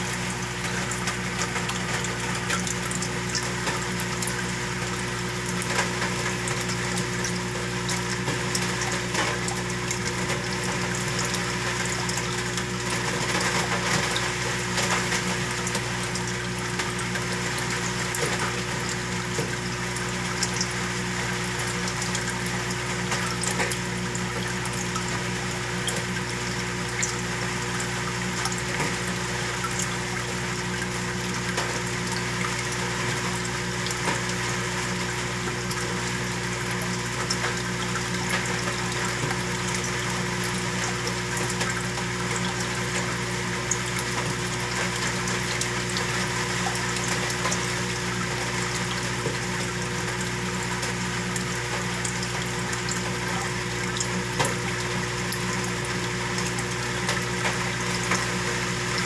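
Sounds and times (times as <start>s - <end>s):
aquarium pump humming: 0.0s - 59.0s
bubbles ticking: 0.0s - 59.0s
water circulating hiss: 0.0s - 59.0s.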